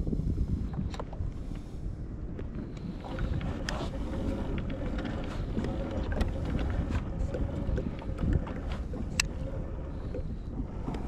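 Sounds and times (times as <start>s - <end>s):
water slapping boat hull: 0.0s - 11.0s
wind buffeting microphone: 0.0s - 11.0s.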